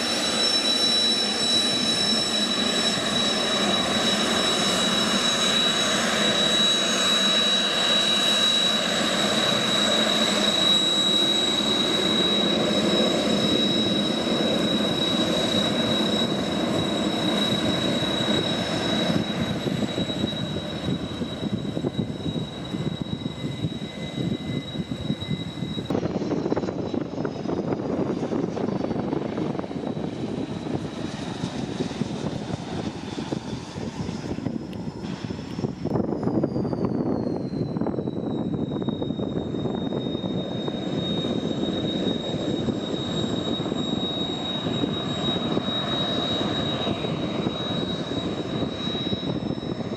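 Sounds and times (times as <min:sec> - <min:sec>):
jet engine rumble: 0:00.0 - 0:49.9
jet engine whine: 0:00.0 - 0:49.9.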